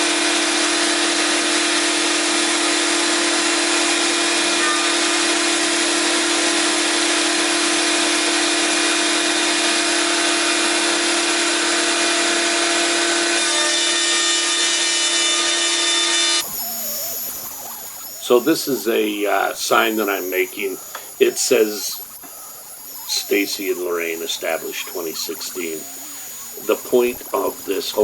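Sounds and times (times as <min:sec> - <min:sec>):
router spindle whine: 0:00.0 - 0:28.0
bit cutting wood hiss: 0:02.6 - 0:28.0.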